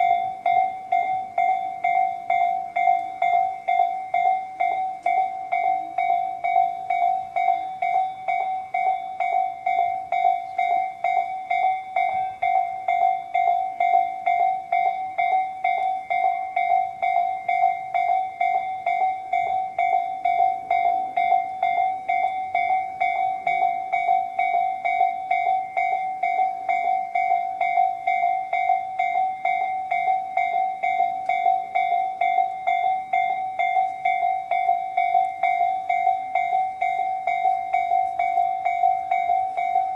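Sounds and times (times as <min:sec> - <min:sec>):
level-crossing alarm bells: 0:00.0 - 0:39.9.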